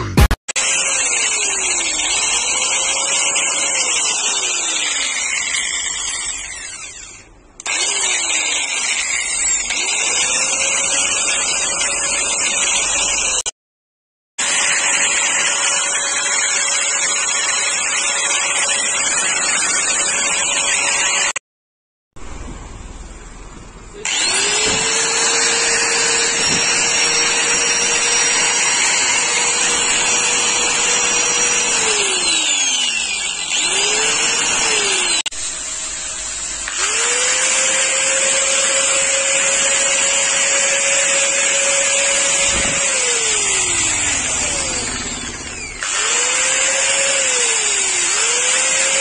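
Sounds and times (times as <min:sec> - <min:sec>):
angle grinder whining: 0:00.0 - 0:13.5, 0:14.4 - 0:21.4, 0:23.9 - 0:49.0.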